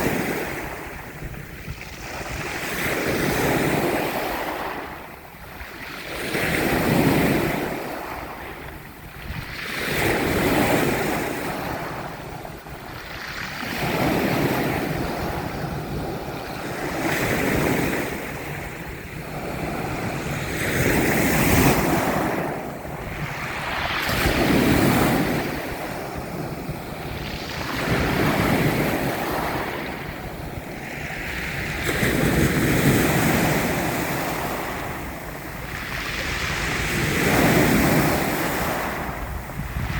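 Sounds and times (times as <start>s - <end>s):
ocean waves surging: 0.0s - 39.9s.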